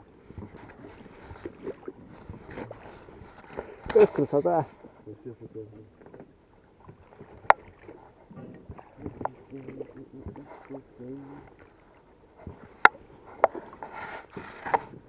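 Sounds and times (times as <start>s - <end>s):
oars creaking in oarlocks: 0.0s - 15.0s
water noise: 0.0s - 15.0s.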